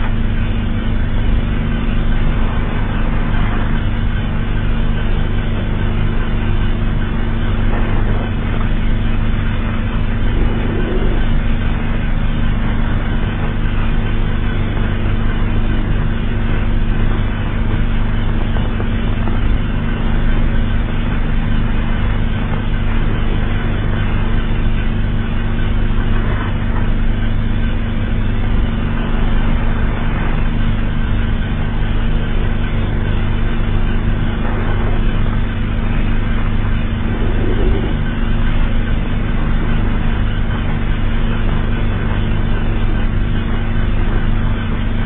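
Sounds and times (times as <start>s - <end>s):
emergency alert alarm drone: 0.0s - 45.0s.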